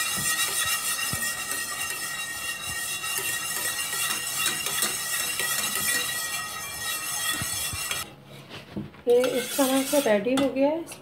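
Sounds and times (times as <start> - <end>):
whisk clinking and scraping a pot: 0.0 - 10.7.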